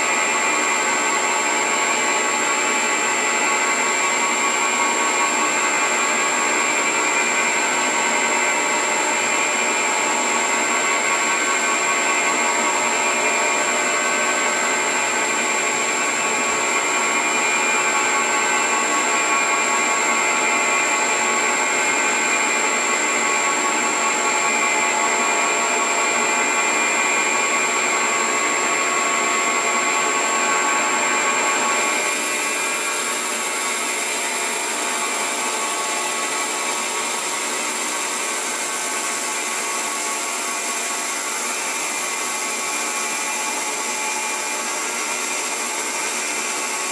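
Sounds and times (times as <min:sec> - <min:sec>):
milling machine whine: 0:00.0 - 0:46.9.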